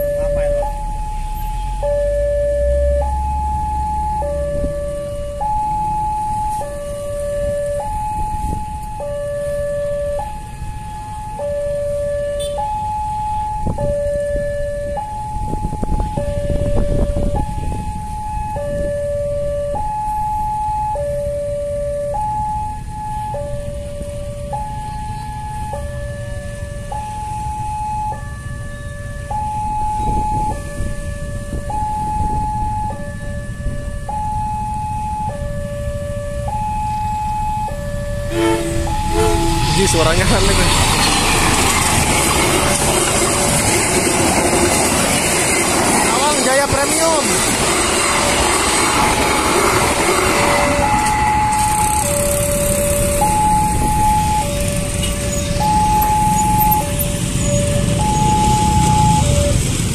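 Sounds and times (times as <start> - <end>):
level-crossing alarm two-tone signal: 0.0 - 40.3, 50.1 - 59.7.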